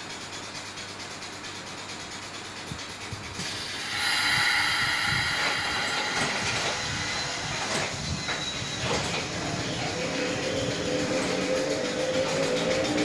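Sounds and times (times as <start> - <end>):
train running with high whine: 0.0 - 13.0.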